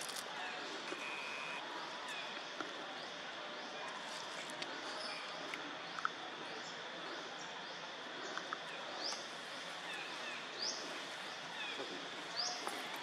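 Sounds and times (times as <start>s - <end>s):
steady forest hiss: 0.0s - 13.0s.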